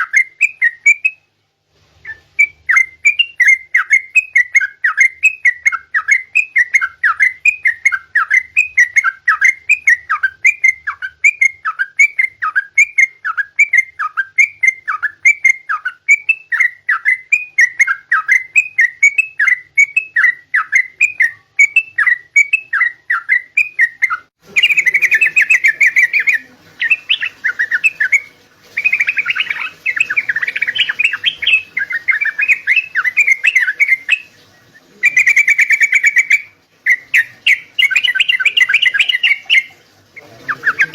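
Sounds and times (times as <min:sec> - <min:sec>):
bird singing whistled phrases: 0:00.0 - 0:01.3, 0:02.0 - 0:40.9.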